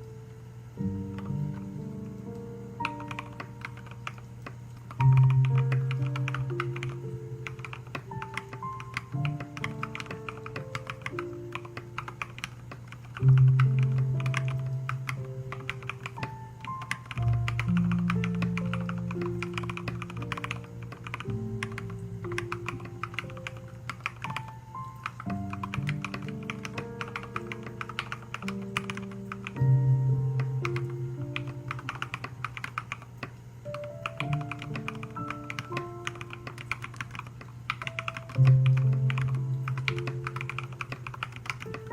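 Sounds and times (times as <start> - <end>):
mechanical keyboard typing: 1.1 - 41.9.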